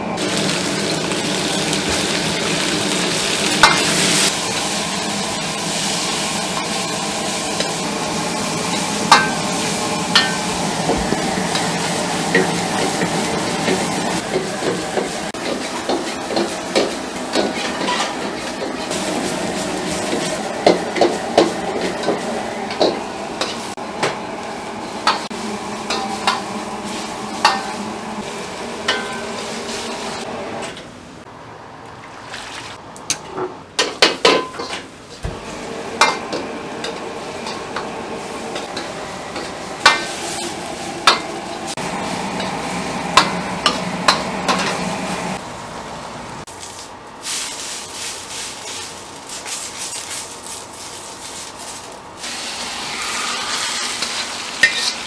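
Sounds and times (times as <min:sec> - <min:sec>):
food sizzling in cookware: 0:00.2 - 0:30.8, 0:33.8 - 0:55.0.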